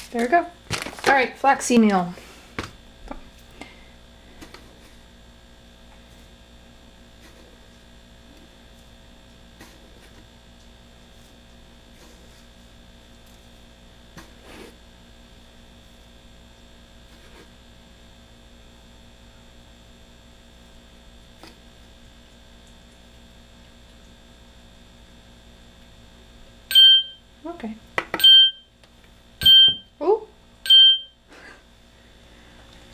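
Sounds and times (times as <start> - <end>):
faint electrical mains hum: 0.0 - 32.9.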